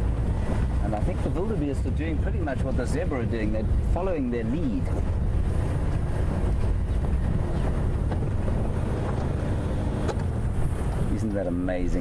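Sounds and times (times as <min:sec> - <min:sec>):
vehicle engine rumbling: 0:00.0 - 0:12.0
wind noise on microphone: 0:00.0 - 0:12.0.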